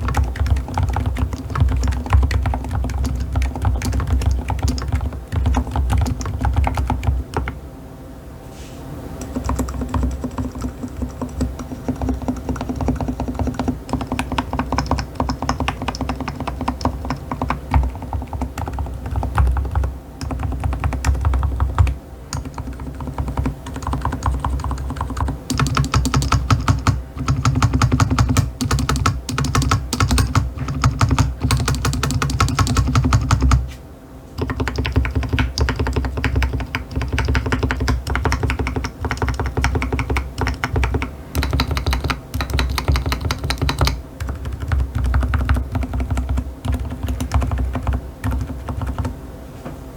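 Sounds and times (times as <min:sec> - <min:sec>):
fast typing on mechanical keyboard: 0:00.0 - 0:07.6, 0:09.2 - 0:33.6, 0:34.4 - 0:49.2.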